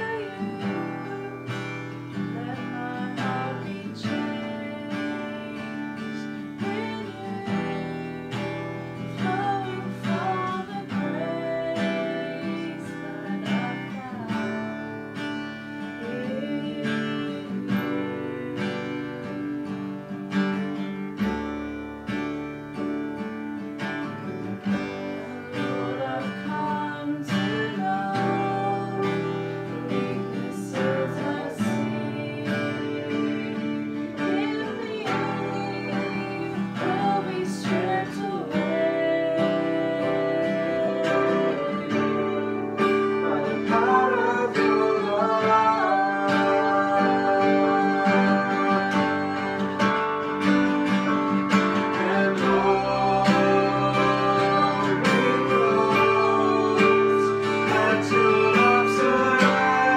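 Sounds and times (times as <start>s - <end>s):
woman singing worship song: 0.0s - 15.2s, 15.8s - 19.8s, 24.8s - 50.3s, 51.9s - 59.9s
strummed acoustic guitar: 0.0s - 59.9s.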